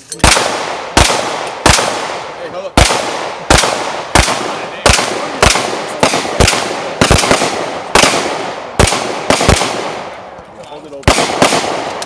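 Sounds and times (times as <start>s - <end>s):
rifle shots echoing: 0.2s - 12.0s.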